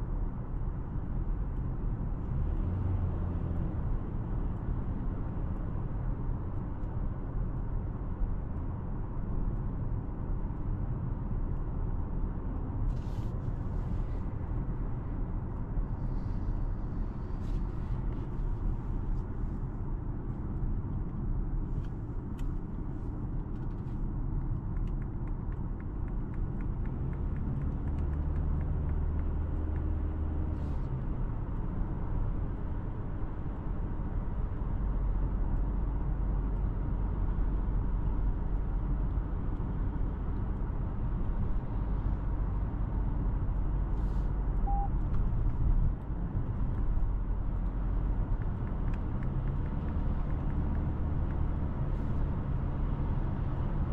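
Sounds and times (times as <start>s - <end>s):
car engine rumble: 0.0s - 53.9s
road noise: 0.0s - 53.9s.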